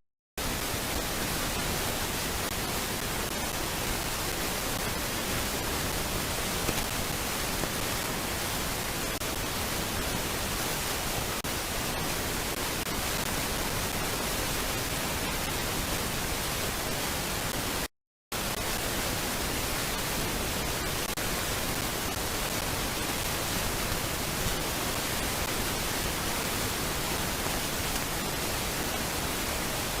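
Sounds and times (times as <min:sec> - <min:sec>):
static hiss: 0:00.4 - 0:30.0.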